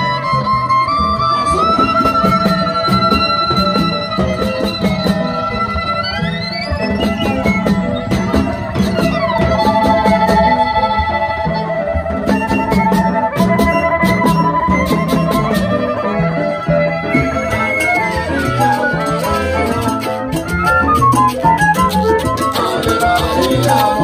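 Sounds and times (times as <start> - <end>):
latin dance band playing: 0.0 - 24.0
sliding lead instrument notes: 0.0 - 24.0
steady percussion: 0.0 - 24.0.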